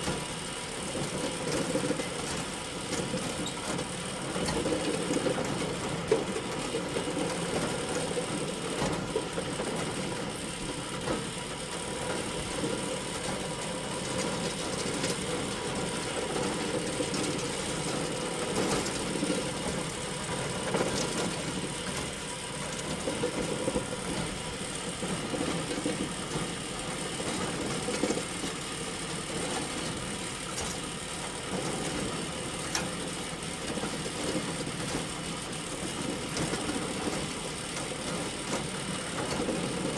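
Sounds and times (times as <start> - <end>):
hay bale elevator droning: 0.0 - 39.9.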